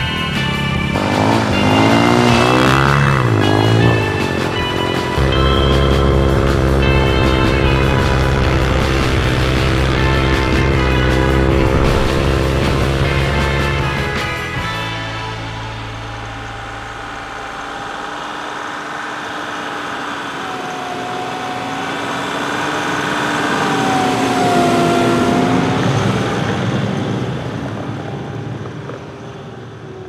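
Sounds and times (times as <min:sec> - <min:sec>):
snowcat engine running: 0:00.0 - 0:30.0.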